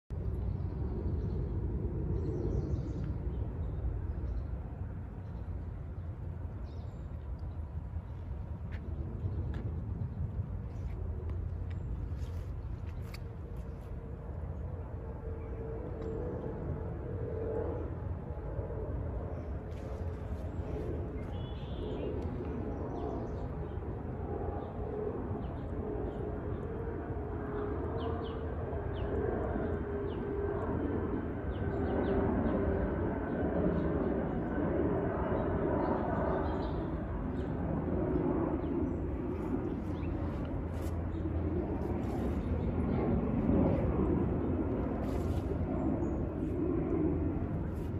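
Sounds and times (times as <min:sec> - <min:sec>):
low outdoor rumble: 0:00.1 - 0:47.9.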